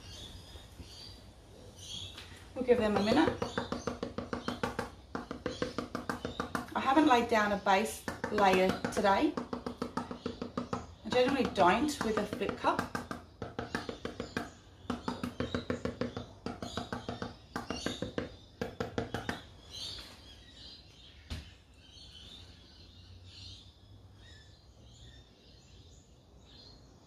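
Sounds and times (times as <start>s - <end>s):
faint birds chirping: 0.0s - 27.0s.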